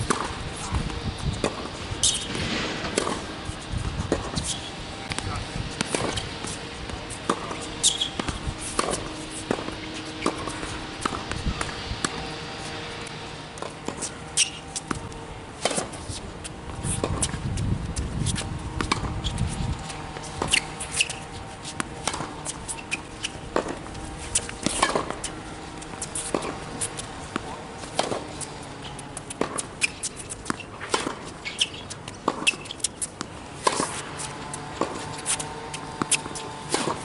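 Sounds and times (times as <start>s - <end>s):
tennis racket hitting ball: 0.0s - 17.4s, 18.0s - 37.0s
footsteps on court: 0.0s - 37.0s.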